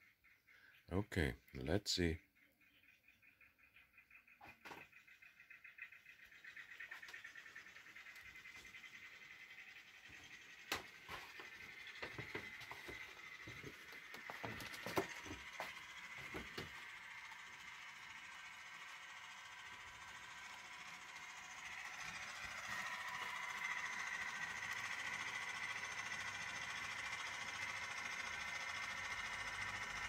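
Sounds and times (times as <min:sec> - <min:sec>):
small electric motor whine: 0:04.0 - 0:30.0
wheels on track: 0:04.6 - 0:30.0.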